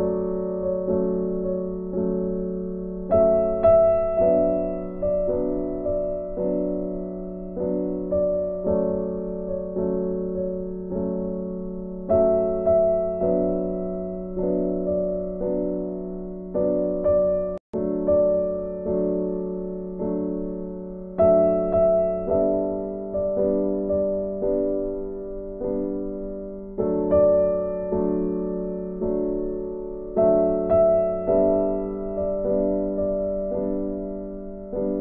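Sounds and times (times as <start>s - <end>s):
soft piano music: 0.0s - 35.0s.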